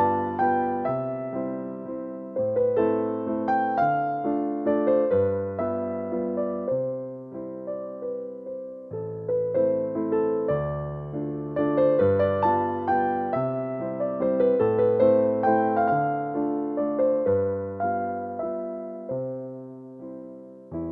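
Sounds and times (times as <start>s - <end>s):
electric piano melody: 0.0s - 20.9s.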